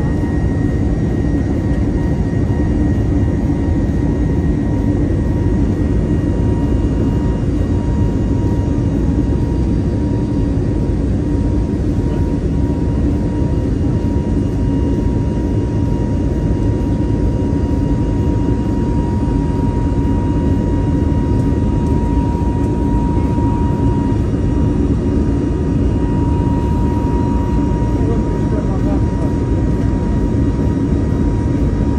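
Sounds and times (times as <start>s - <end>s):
jet engine rush in cabin: 0.0s - 31.9s
thin steady whine: 0.0s - 31.9s.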